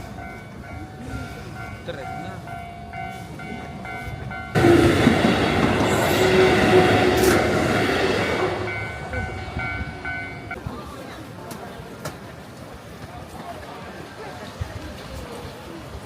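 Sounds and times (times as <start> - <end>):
train passing: 0.0 - 14.3.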